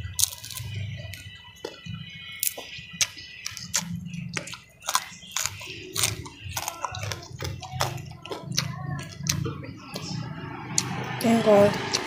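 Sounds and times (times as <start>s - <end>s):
chewing and lip smacks: 0.1s - 11.0s.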